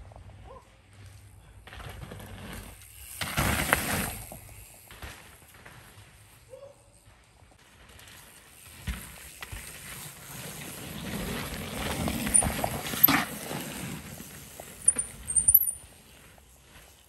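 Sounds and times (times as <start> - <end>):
bike tyres on dirt: 0.0 - 17.0
bike clatters: 0.2 - 17.0.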